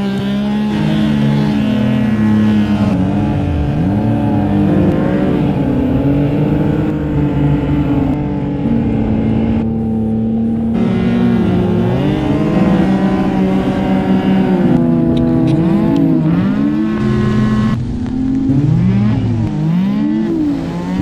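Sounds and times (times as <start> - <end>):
snowmobile engine running hard: 0.0 - 21.0.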